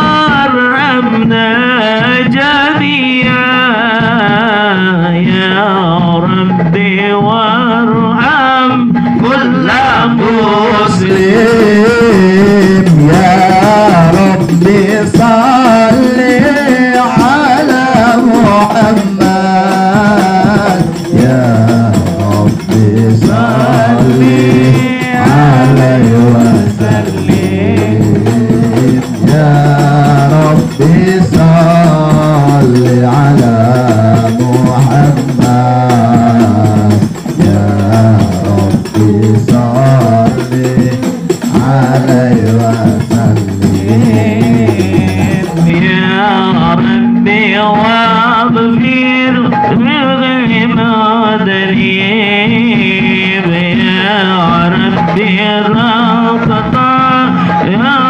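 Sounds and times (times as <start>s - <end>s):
frame drums beating: 0.0s - 58.0s
person singing devotional song: 0.0s - 58.0s.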